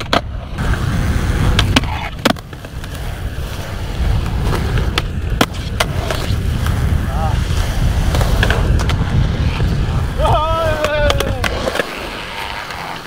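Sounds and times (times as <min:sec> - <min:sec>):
skateboard clacks: 0:00.0 - 0:13.0
skateboard wheels rolling on concrete: 0:00.0 - 0:13.0.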